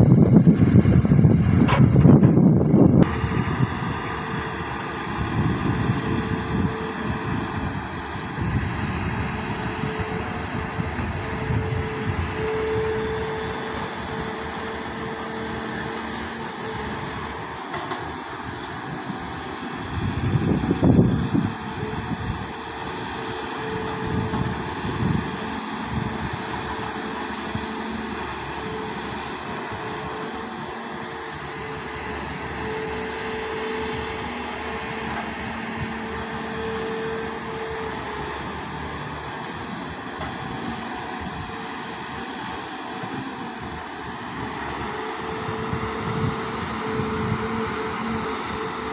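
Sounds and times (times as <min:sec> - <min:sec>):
excavator diesel engine drone: 0:00.0 - 0:48.9.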